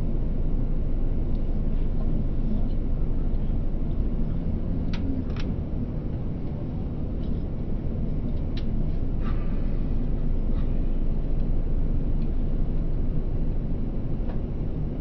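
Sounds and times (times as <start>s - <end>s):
jet engine rumble and airflow: 0.0s - 15.0s.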